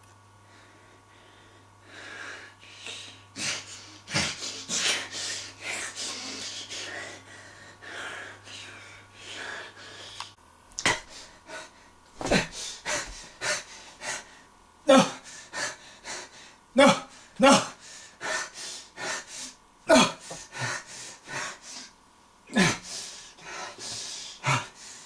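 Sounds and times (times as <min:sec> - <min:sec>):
person making breathy hissing noises: 0:00.5 - 0:25.0.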